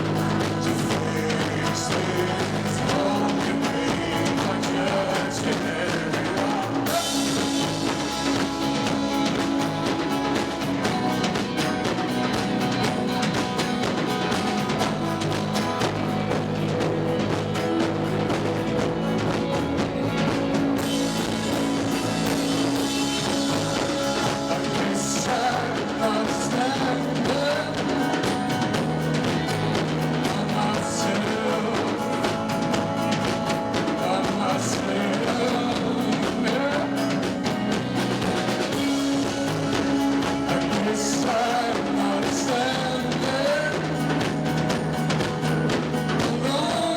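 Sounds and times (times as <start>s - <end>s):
person singing: 0.0s - 16.5s, 19.9s - 46.9s
drum kit: 0.0s - 46.9s
guitar: 0.0s - 46.9s.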